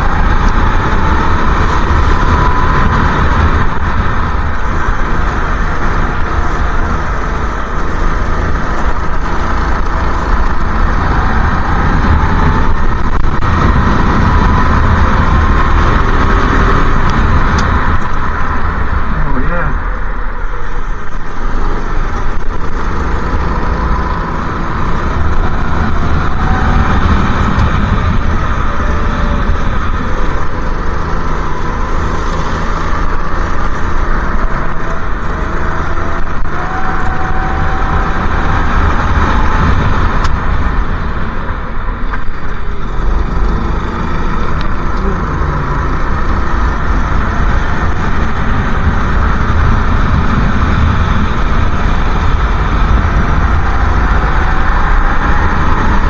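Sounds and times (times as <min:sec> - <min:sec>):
go-kart engine racing: 0:00.0 - 0:56.0
wind rumble on microphone: 0:00.0 - 0:56.0.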